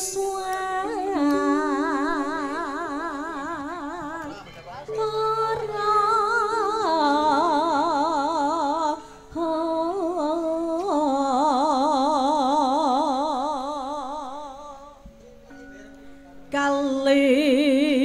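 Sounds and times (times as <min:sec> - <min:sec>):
person singing with vibrato: 0:00.0 - 0:15.0
sustained musical accompaniment: 0:00.0 - 0:18.0.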